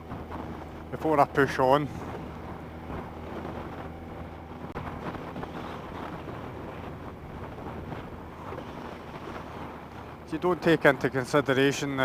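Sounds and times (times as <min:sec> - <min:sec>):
motorcycle engine cruising: 0:00.0 - 0:10.3
wind rushing over microphone: 0:00.0 - 0:12.0.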